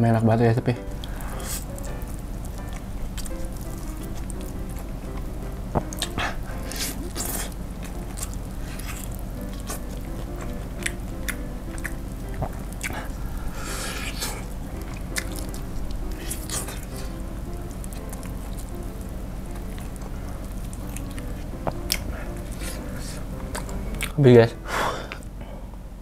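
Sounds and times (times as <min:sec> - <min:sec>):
soft background music: 0:00.0 - 0:26.0
biting and chewing crispy food: 0:00.8 - 0:24.2.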